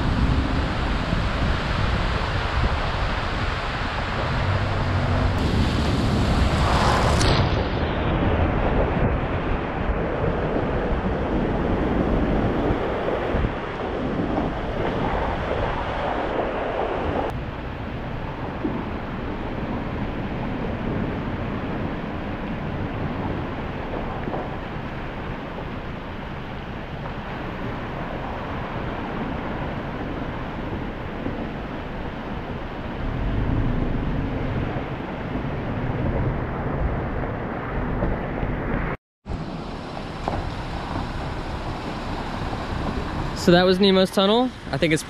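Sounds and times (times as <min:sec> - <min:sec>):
wind and water rushing: 0:00.0 - 0:45.0.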